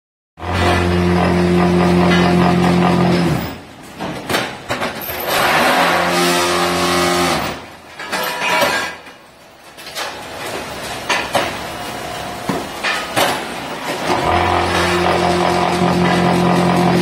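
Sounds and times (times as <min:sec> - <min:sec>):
knocks and clanks of machine: 0:00.4 - 0:11.7, 0:12.4 - 0:17.0.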